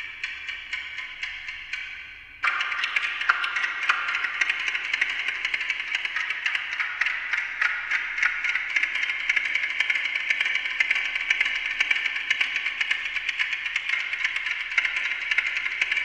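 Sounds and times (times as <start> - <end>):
echoed clock ticking: 0.0 - 16.0.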